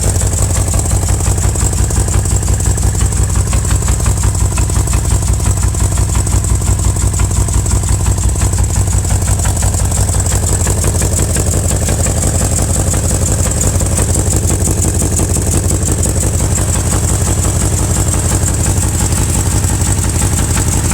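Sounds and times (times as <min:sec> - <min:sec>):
car engine idling: 0:00.0 - 0:20.9
rhythmic engine knock: 0:00.0 - 0:20.9.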